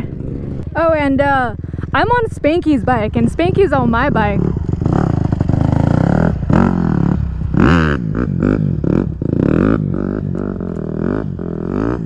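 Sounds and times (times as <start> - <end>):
mini bike engine revving: 0.0 - 12.0.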